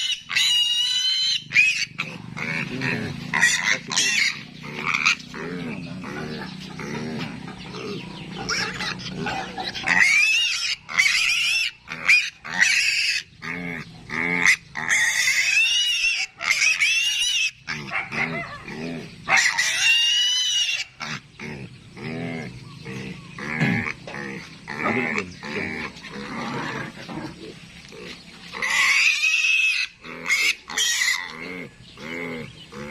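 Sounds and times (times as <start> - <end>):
pig grunts: 0.0 - 32.9
piglets squealing: 0.0 - 32.9.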